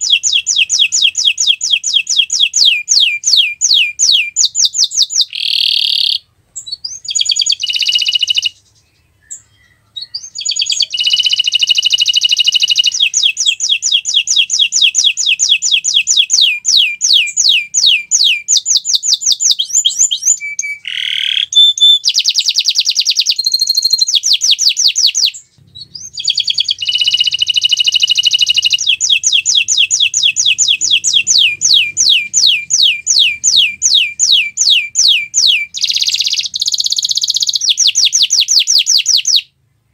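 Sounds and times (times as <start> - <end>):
canary trilling song: 0.0 - 39.6.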